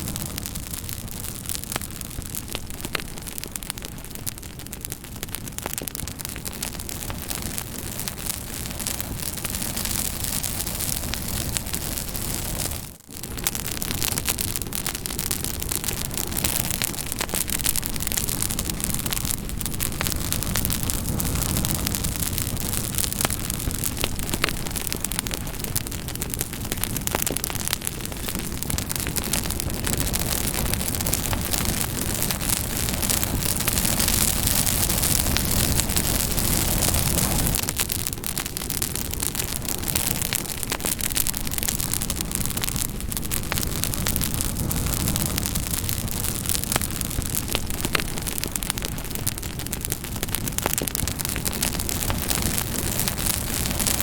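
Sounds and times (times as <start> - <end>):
campfire crackling and hissing: 0.0 - 54.0.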